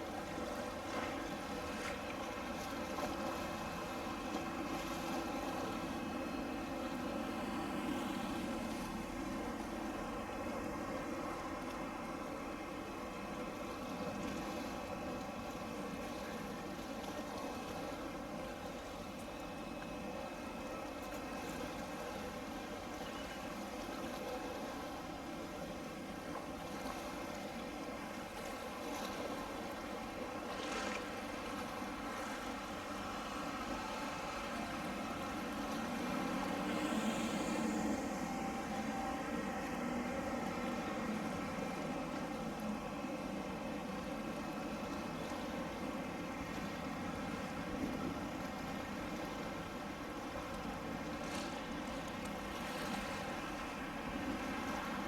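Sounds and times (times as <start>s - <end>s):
water and wind noise: 0.0s - 55.0s.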